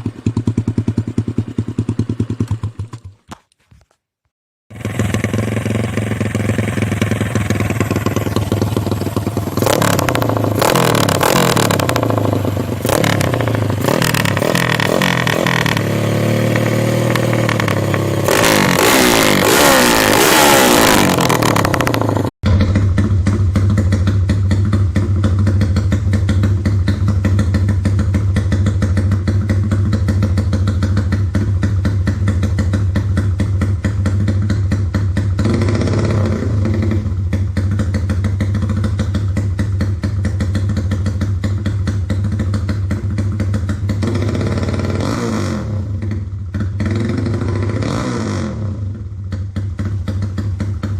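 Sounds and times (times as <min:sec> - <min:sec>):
motorcycle engine revving: 0:00.0 - 0:03.2, 0:04.7 - 0:50.9.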